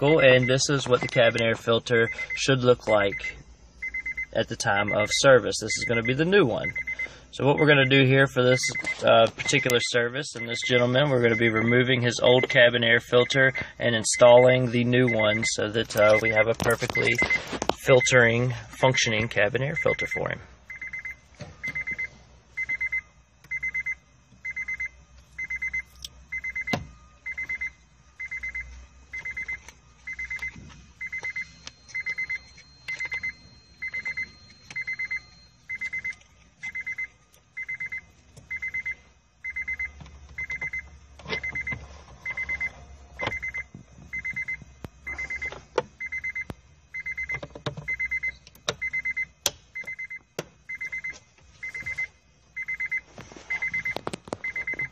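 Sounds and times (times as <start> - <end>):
car warning chime beeping: 0.0 - 54.9.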